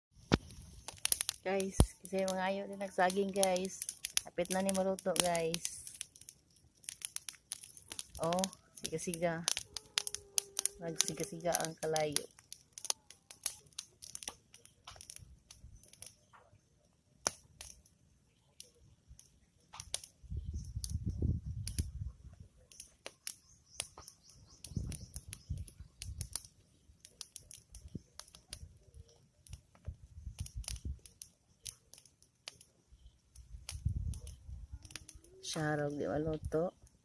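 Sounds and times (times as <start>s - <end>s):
wood fire crackling and popping: 0.1s - 37.0s.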